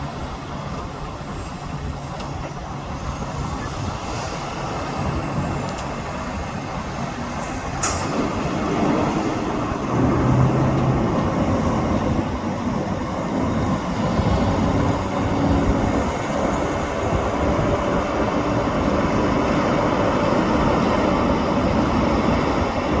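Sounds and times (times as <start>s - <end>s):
heavy construction machinery running: 0.0s - 23.0s.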